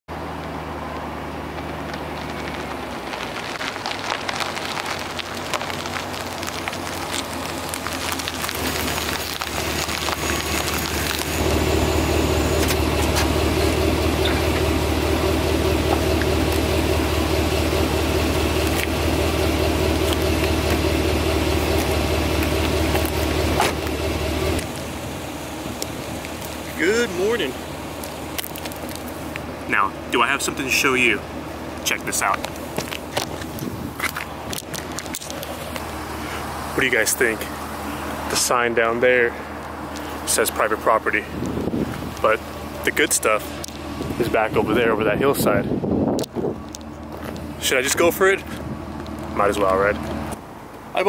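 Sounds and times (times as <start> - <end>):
truck engine running: 0.1 - 51.0
tyres crackling over grit: 0.2 - 51.0.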